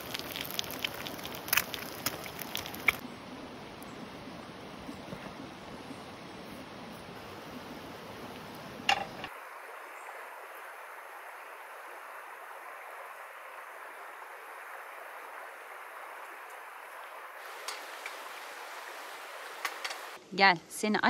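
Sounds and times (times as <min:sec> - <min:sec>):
stream water flowing: 0:00.0 - 0:05.6, 0:06.2 - 0:20.2.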